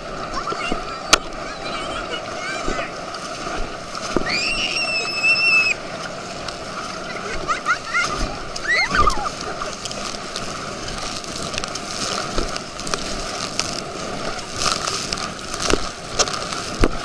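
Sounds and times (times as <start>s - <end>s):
rushing water: 0.0s - 17.0s
tube slapping on water: 0.0s - 17.0s
wind: 0.0s - 17.0s.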